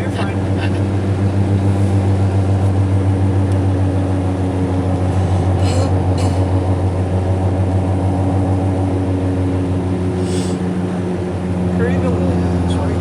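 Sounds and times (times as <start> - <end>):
car driving on snow chains: 0.0 - 13.0.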